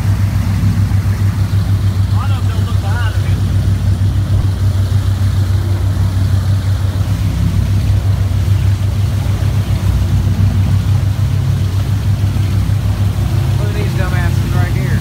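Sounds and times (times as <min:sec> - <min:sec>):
powerboat engine drone: 0:00.0 - 0:15.0
water rushing in wake: 0:00.0 - 0:15.0.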